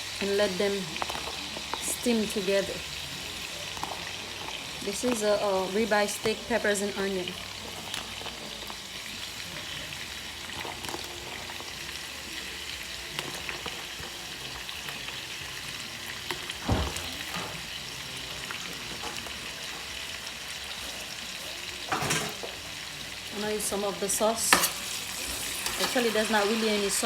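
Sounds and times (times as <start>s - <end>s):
meat and vegetables sizzling in skillet: 0.0s - 27.0s.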